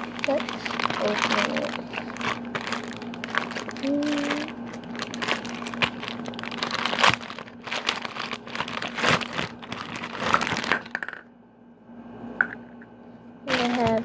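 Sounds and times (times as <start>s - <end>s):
plastic packaging crinkling: 0.0s - 11.1s, 13.4s - 14.0s.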